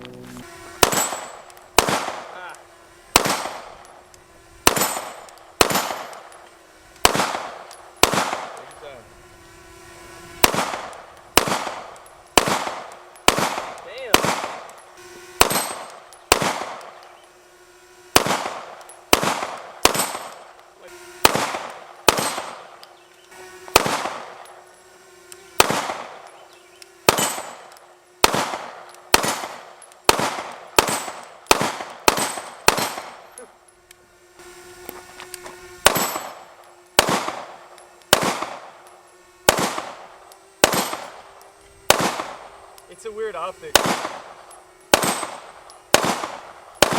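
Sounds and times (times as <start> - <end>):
pistol gunshots: 0.8 - 9.0, 10.4 - 17.3, 18.1 - 23.0, 23.7 - 24.7, 25.5 - 33.6, 35.8 - 42.9, 43.6 - 46.9.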